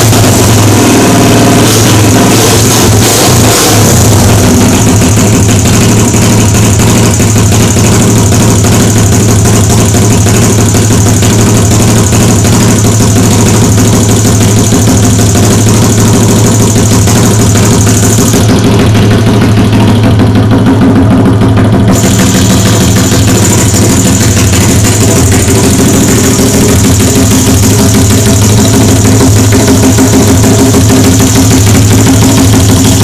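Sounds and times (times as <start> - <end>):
small motorcycle engine idling: 0.0 - 33.0.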